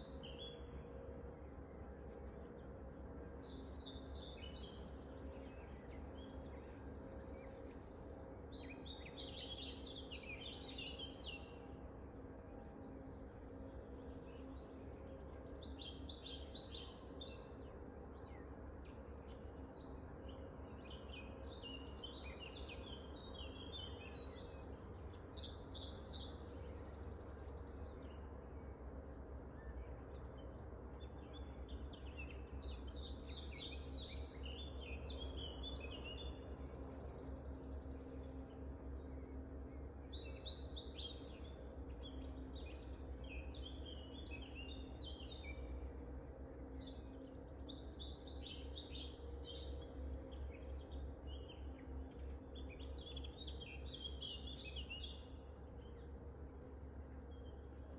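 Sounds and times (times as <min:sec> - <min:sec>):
songbirds chirping: 0:00.0 - 0:57.9
steady low hum: 0:00.0 - 0:57.9.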